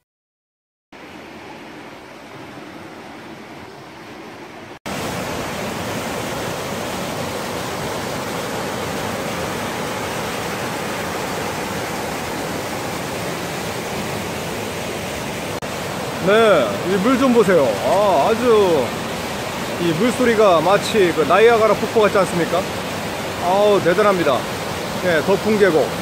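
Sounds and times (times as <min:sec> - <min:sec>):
mountain stream rushing over rocks: 0:01.0 - 0:26.0.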